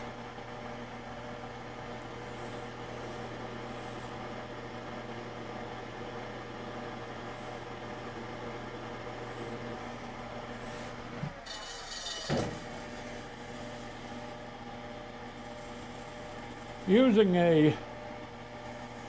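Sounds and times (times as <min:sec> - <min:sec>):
lathe humming: 0:00.0 - 0:19.0.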